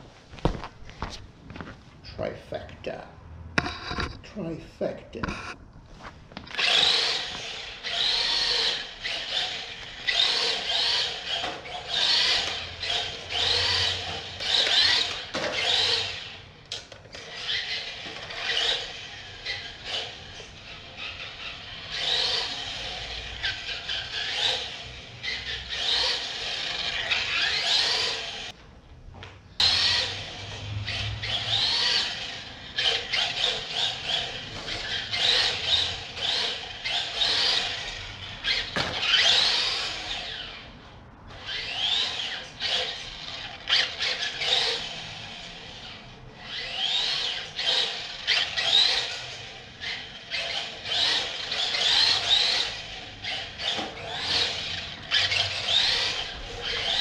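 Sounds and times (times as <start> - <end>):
electric motor whining: 6.5 - 28.5, 29.6 - 40.6, 41.4 - 57.0.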